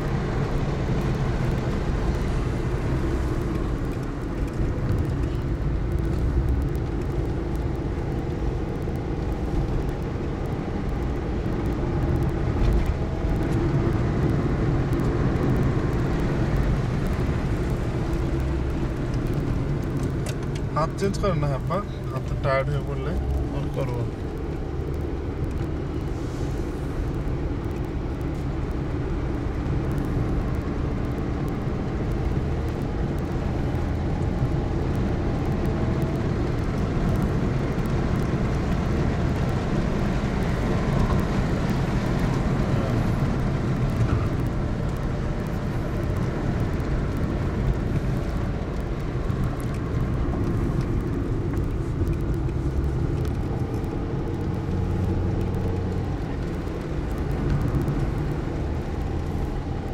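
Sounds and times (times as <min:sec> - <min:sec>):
car engine and tyre hum: 0:00.0 - 0:59.9.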